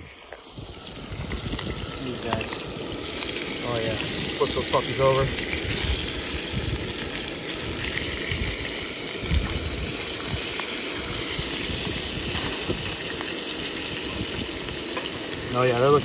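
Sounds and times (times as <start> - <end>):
fish sizzling in a pan: 0.0 - 16.0.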